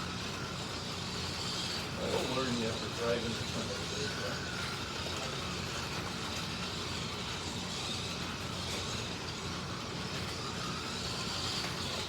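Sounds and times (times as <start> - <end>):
slot car electric motors whining: 0.0 - 12.0.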